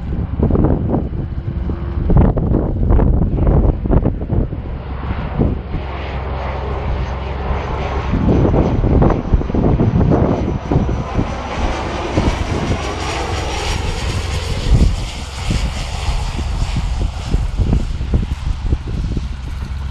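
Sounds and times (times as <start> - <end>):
light aircraft propeller engine: 0.0 - 19.9
wind buffeting microphone: 0.0 - 19.9.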